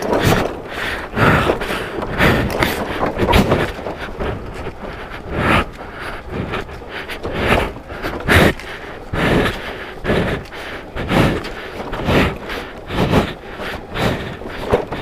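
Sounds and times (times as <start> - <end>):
footsteps: 0.0 - 15.0
scooter rattling over rocks: 0.0 - 15.0.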